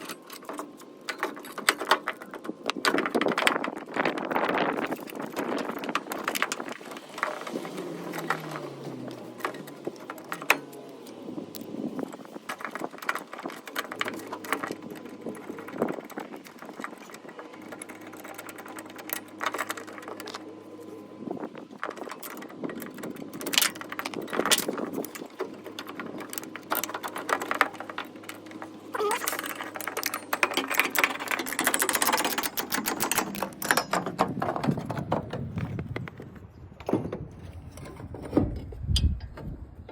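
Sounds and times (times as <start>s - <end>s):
hand tools clanking on bolts: 0.0s - 35.8s.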